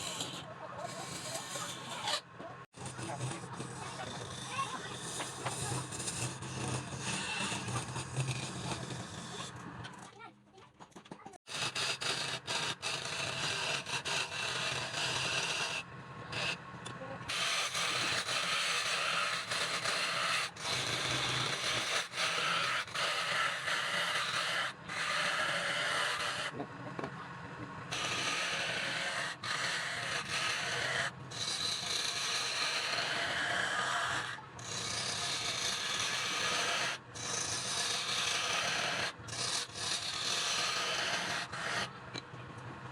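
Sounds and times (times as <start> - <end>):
tool scraping spinning wood: 0.0 - 10.2, 10.8 - 27.1, 27.9 - 42.2.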